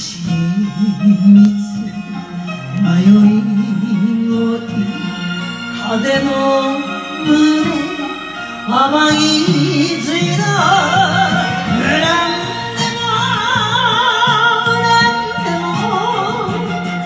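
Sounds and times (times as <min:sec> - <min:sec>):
karaoke backing music: 0:00.0 - 0:17.0.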